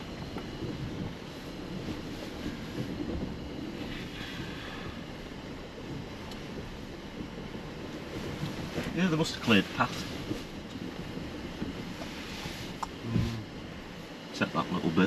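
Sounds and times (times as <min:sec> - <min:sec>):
tyres and running gear rumbling: 0:00.0 - 0:15.0.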